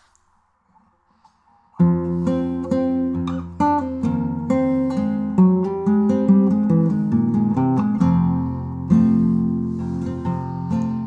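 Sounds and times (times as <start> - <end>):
acoustic guitar picked chords: 1.8 - 11.0.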